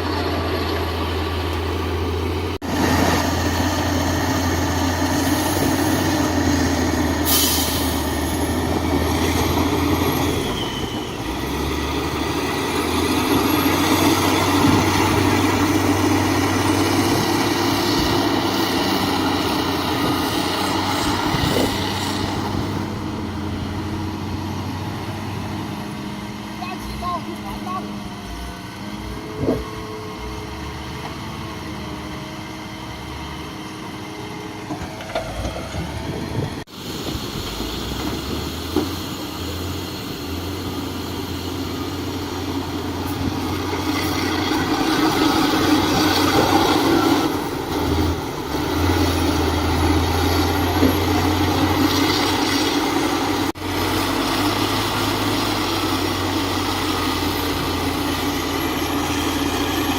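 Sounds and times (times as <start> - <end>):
heavy machine diesel engine running: 0.0 - 59.9.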